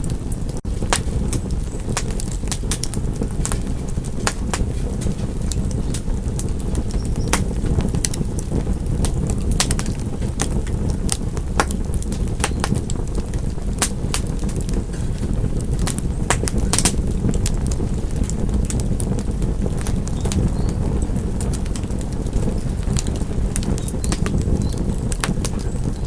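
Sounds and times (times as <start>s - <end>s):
low rumble of burning: 0.0s - 26.0s
wood fire crackling: 0.0s - 26.0s.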